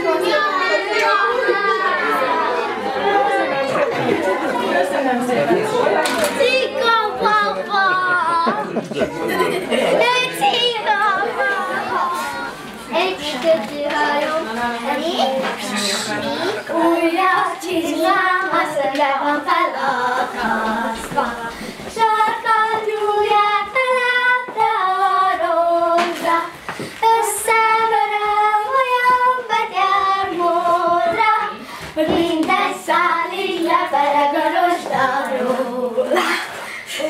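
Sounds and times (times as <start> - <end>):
children singing: 0.0 - 4.8, 6.1 - 37.0.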